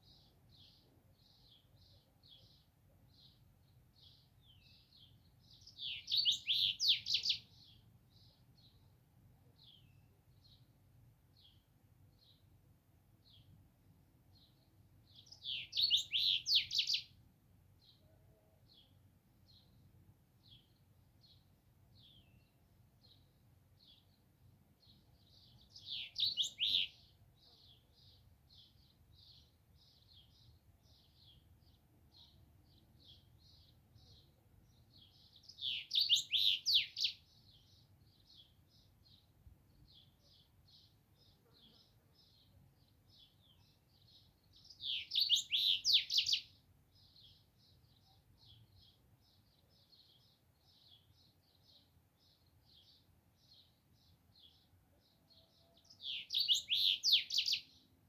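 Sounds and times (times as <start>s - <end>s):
small songbird chirping: 0.0s - 58.0s.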